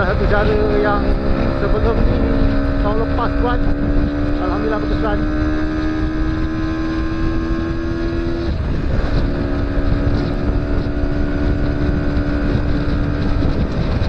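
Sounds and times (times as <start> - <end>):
motorcycle engine running: 0.0 - 14.0
wind on microphone: 0.0 - 14.0.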